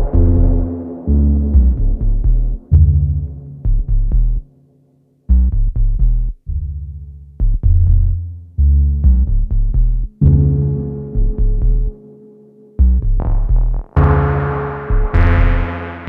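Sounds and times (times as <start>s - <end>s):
bass-heavy synthesizer notes: 0.0s - 16.0s.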